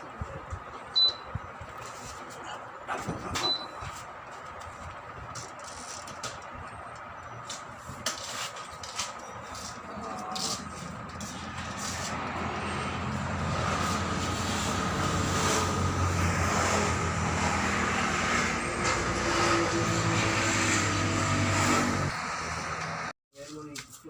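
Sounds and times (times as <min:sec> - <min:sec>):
engine humming: 0:00.0 - 0:23.1.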